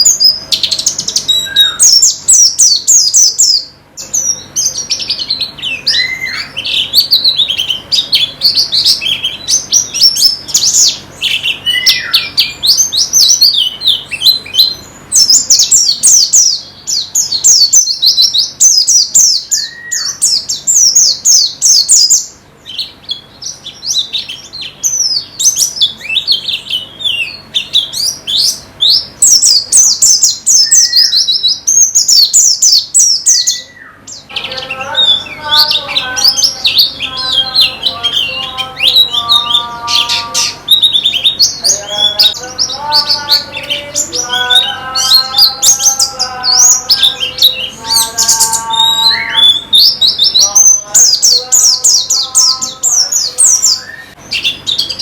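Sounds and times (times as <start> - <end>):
birds twittering song: 0.0 - 55.0.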